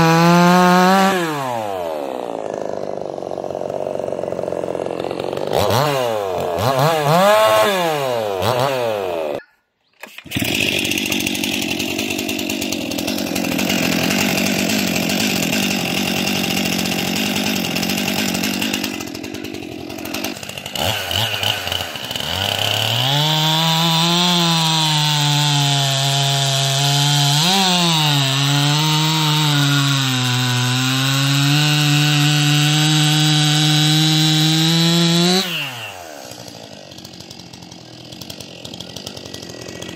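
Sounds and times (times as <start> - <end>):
chainsaw revving: 0.0 - 9.4, 10.0 - 39.9.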